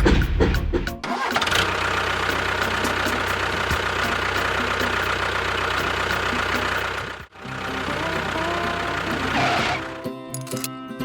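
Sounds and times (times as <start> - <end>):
music: 0.0 - 1.3, 2.3 - 11.0
engine idling with chugging: 1.0 - 10.6.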